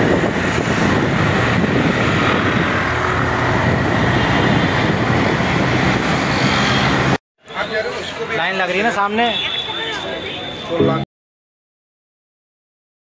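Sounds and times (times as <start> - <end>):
road noise: 0.0 - 11.1.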